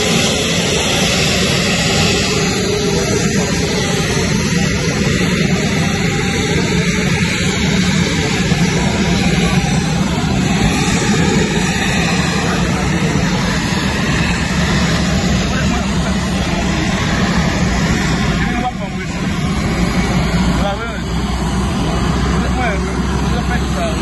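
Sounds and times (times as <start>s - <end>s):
aircraft engine drone: 0.0s - 24.0s
low hum: 0.0s - 24.0s.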